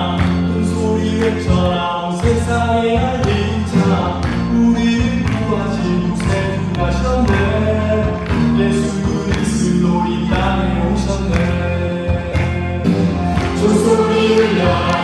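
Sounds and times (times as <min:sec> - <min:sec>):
band playing steady beat: 0:00.0 - 0:15.0
voices singing: 0:00.0 - 0:15.0.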